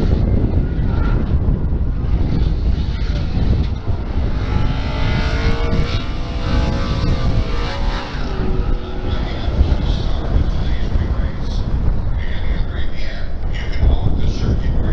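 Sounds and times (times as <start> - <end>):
distant car engines revving: 0.0 - 14.9
wind buffeting microphone: 0.0 - 14.9.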